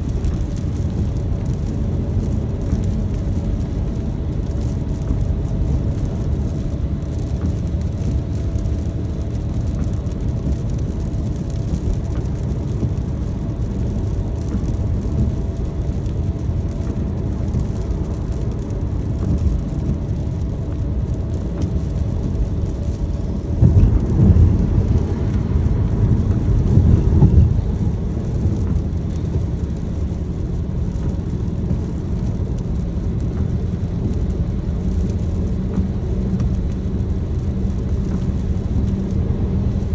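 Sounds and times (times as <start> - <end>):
car road and engine rumble: 0.0 - 39.9
rain noise: 0.0 - 39.9.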